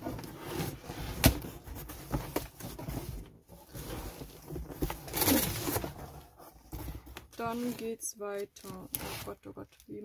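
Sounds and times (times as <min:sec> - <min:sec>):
plastic packaging rustling: 0:01.4 - 0:10.0.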